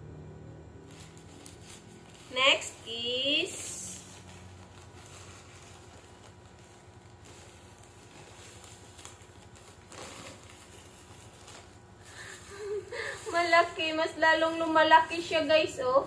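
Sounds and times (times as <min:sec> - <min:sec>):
yarn packaging rustling: 0:00.8 - 0:16.0.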